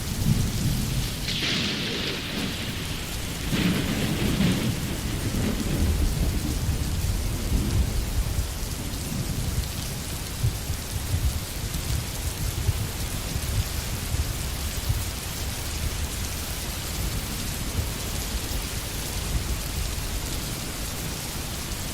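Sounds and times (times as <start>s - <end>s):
rain falling on forest: 0.0s - 21.9s
thunder rumbling: 0.0s - 21.9s.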